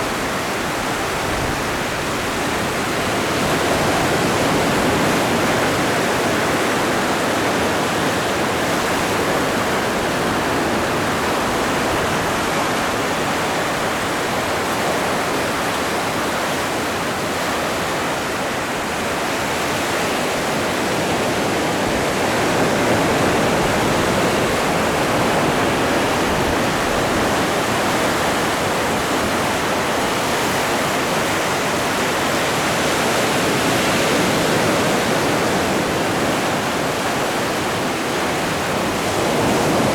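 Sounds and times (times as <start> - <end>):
breaking waves: 0.0 - 39.9.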